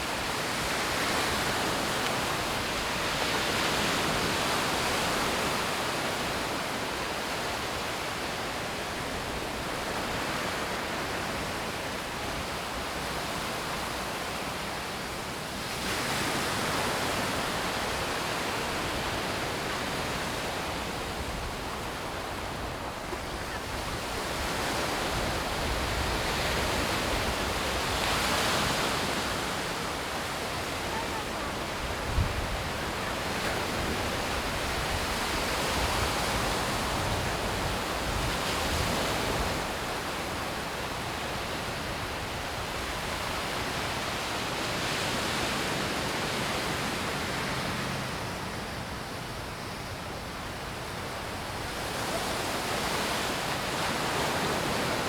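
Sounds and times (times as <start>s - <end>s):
sea waves washing onto beach: 0.0s - 55.0s.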